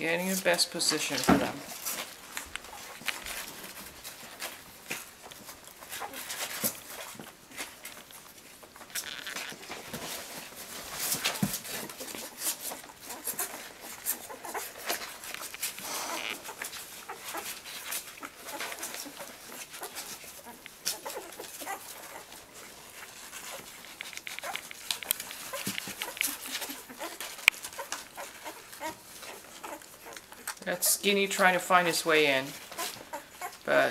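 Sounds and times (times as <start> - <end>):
puppies squeaking and whimpering: 1.8 - 7.2, 8.8 - 9.9, 11.6 - 31.0, 32.5 - 33.8.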